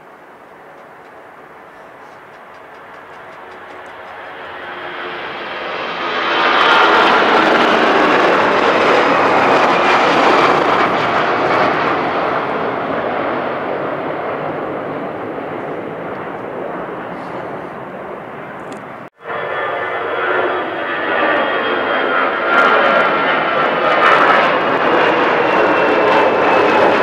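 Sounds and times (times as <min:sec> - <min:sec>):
jet airliner engines passing: 0:00.0 - 0:27.0.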